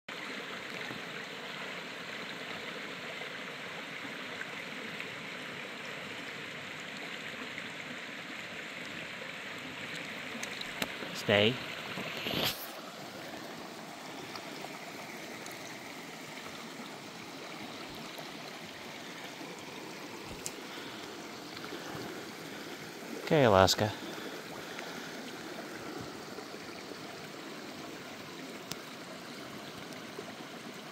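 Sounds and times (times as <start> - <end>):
creek water rushing over stones: 0.1 - 30.9.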